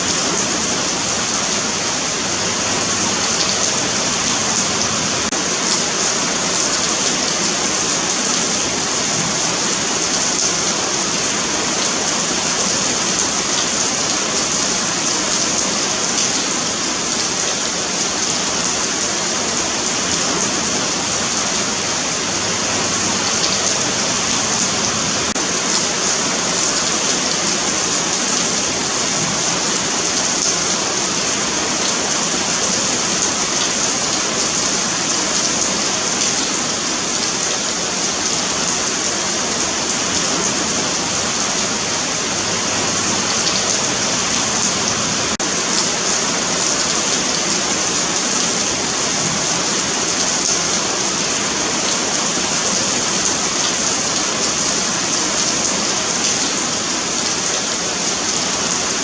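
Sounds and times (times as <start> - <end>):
rain on pavement: 0.0 - 59.0.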